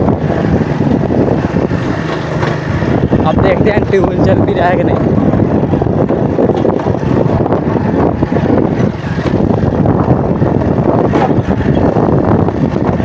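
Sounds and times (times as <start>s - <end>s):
motorcycle running on road: 0.0s - 13.0s
wind buffeting microphone: 0.0s - 13.0s.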